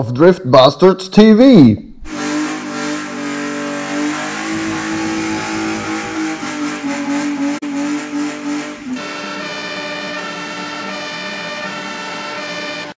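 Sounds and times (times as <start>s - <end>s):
car engine revving high: 2.1s - 13.0s.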